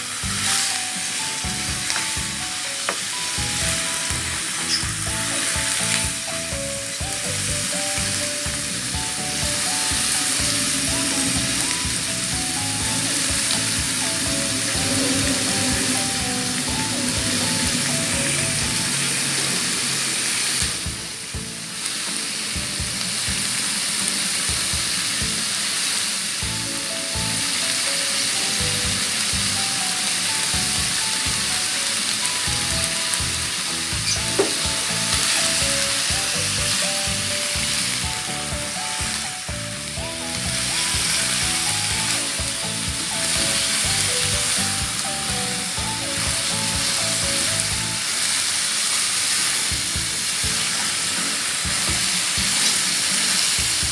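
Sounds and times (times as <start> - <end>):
background music: 0.0 - 48.3
meat sizzling in a pan: 0.0 - 53.9.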